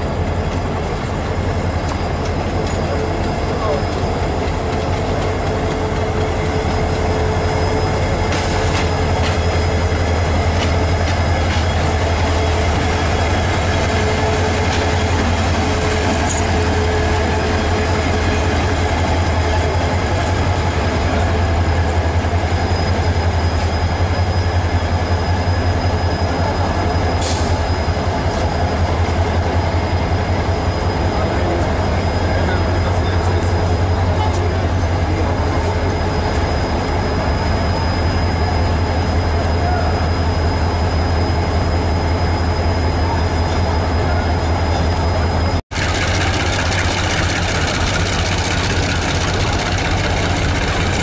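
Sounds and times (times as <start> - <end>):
high wheel squeal: 0.0 - 51.0
locomotive engine droning: 0.0 - 51.0.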